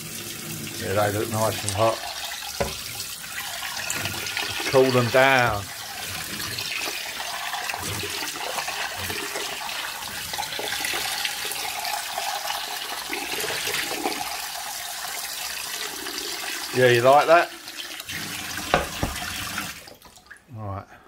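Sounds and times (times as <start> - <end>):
tap water running into saucepan: 0.0 - 20.4.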